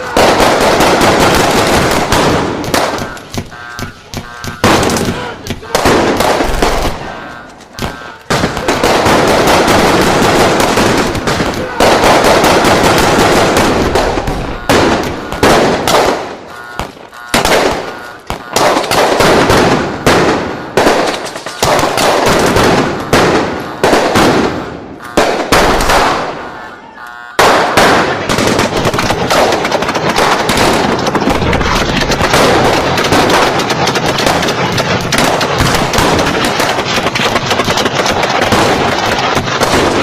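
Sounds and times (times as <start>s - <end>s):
rapid automatic gunfire: 0.0s - 26.6s, 27.4s - 40.0s
echoing gunshots: 0.0s - 40.0s.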